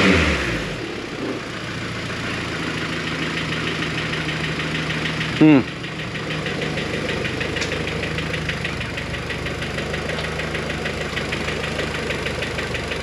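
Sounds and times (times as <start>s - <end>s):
car engine idling: 0.0s - 13.0s
rapid ticking from engine: 1.4s - 13.0s.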